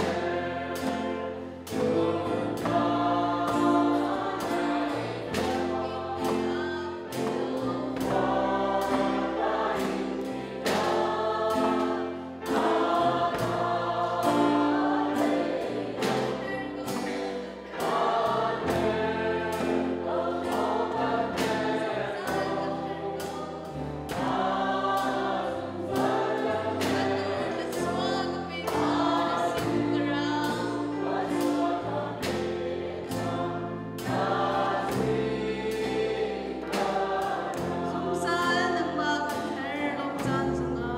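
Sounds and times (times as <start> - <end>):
drum kit beat: 0.0 - 40.7
group singing worship song: 0.0 - 40.9.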